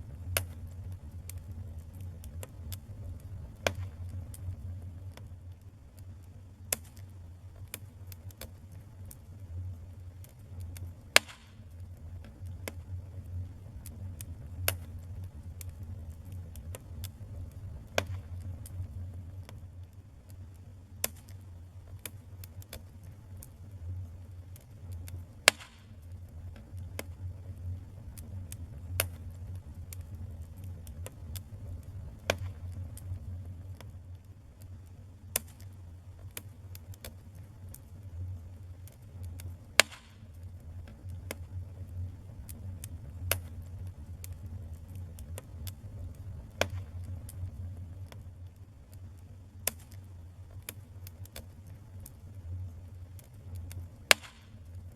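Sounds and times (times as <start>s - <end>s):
low fire rumble: 0.0s - 54.9s
wood fire crackling and popping: 0.0s - 54.9s.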